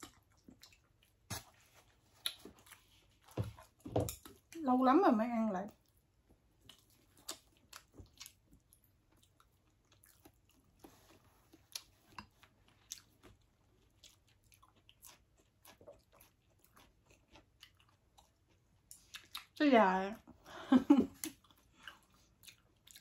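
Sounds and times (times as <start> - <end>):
people chewing: 0.0 - 4.6, 5.7 - 19.6, 20.4 - 23.0.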